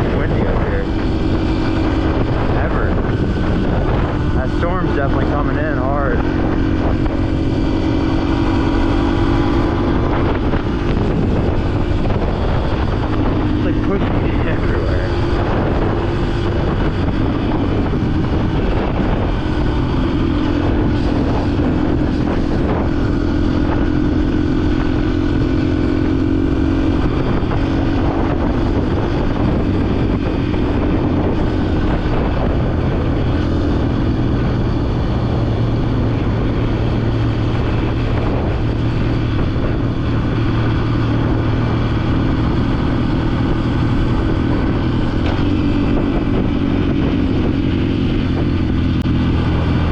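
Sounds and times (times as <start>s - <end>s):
dirt bike engine running: 0.0s - 49.9s
wind and road noise: 0.0s - 49.9s.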